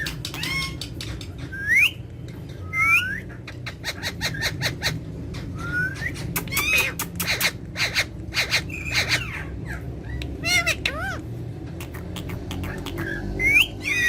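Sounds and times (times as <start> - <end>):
parrots whistling calls: 0.0 - 11.2, 11.8 - 14.0.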